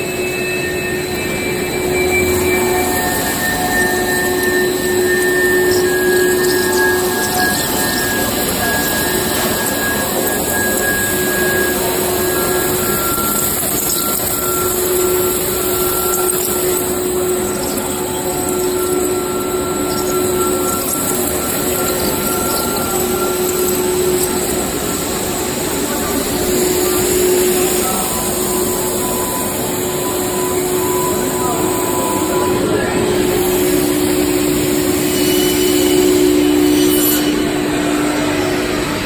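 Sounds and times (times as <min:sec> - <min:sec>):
high whine: 0:00.0 - 0:39.0
loud machine noise: 0:00.0 - 0:39.0.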